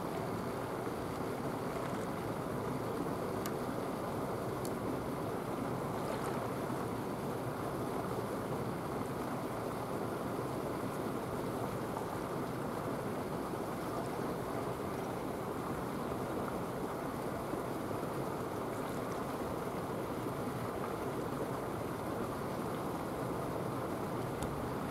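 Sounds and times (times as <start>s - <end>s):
sea water washing: 0.0s - 24.9s.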